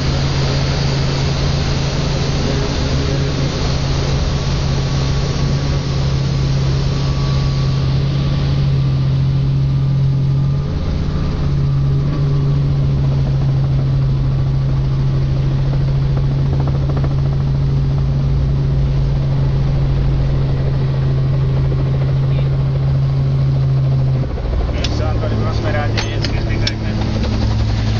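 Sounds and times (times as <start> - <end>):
helicopter engine and rotor hum: 0.0 - 27.9.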